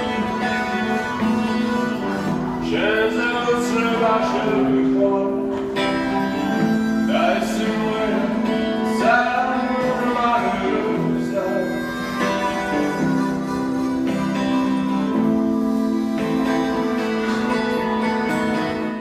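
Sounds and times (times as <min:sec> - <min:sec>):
guitar playing: 0:00.0 - 0:19.0
person singing: 0:00.0 - 0:19.0.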